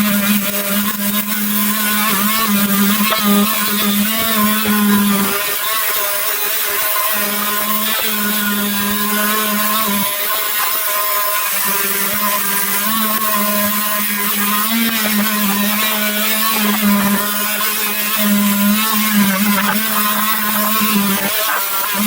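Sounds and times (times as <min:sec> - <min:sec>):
power tool motor humming: 0:00.0 - 0:22.0.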